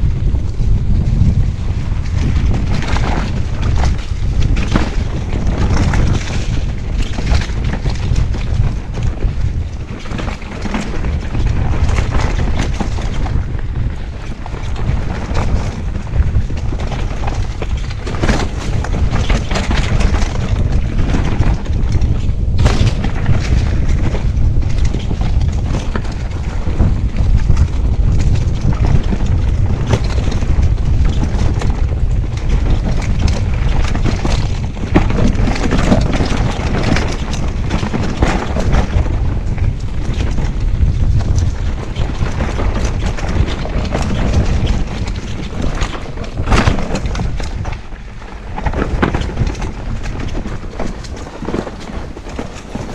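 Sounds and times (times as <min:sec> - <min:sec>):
bike knocking and rattling: 0:00.0 - 0:52.9
wind rumble on microphone: 0:00.0 - 0:52.9.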